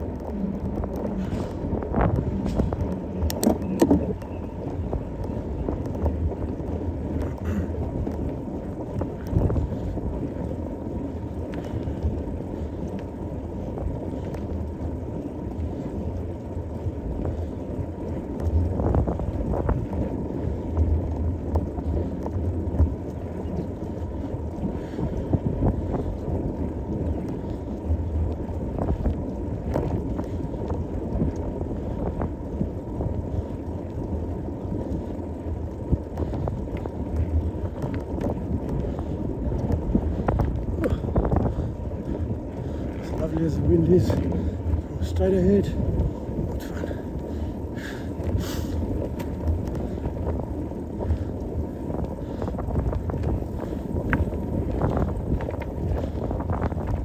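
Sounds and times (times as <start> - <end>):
bike knocking and rattling: 0.0 - 57.0
wind rushing over microphone: 0.0 - 57.0.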